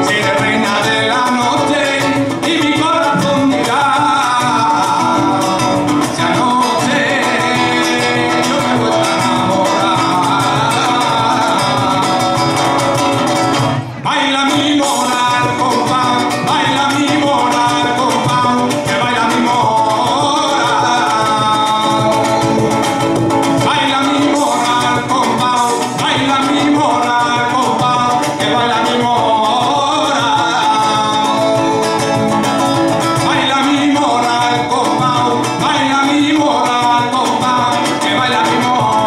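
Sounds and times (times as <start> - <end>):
cajon drumming: 0.0 - 39.0
flamenco guitar: 0.0 - 39.0
man singing through microphone: 0.0 - 39.0.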